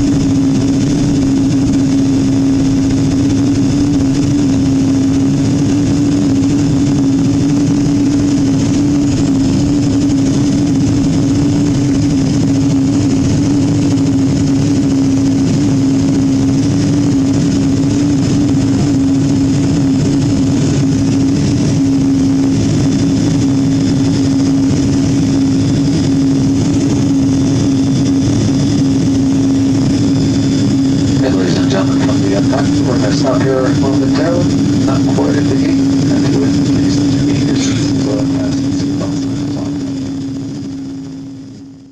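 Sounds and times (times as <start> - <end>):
aircraft engines humming in cabin: 0.0 - 41.9.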